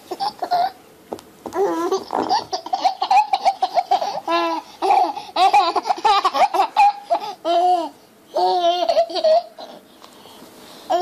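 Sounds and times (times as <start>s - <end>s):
baby laughing: 0.1s - 0.8s, 1.6s - 9.8s.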